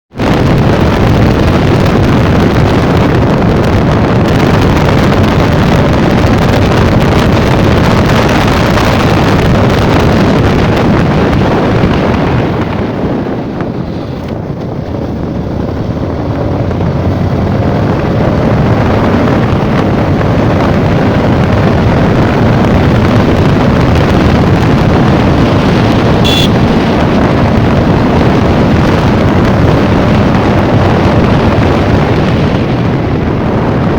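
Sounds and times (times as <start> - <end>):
wind rushing over microphone: 0.1 - 33.9
motorcycle engine running: 0.2 - 33.9.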